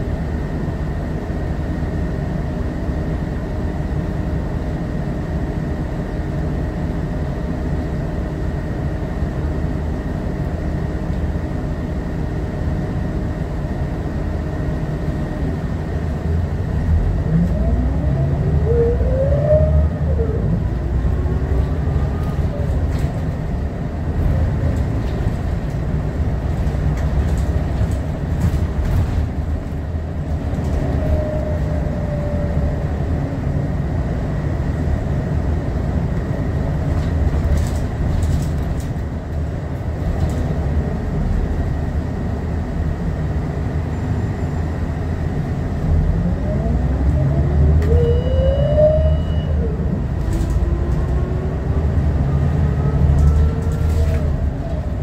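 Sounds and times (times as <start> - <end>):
bus engine rumbling: 0.0 - 55.0
bus rattling and clicking: 0.0 - 55.0.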